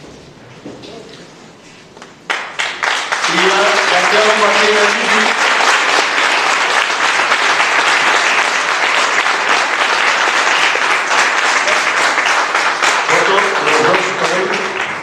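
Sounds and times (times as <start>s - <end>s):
audience applauding: 2.2s - 15.0s.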